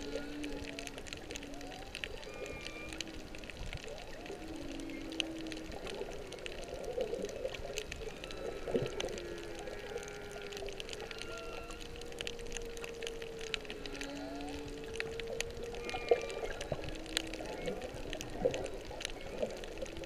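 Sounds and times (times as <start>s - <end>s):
crackle of clicks: 0.0s - 20.0s
whale song underwater: 0.0s - 20.0s.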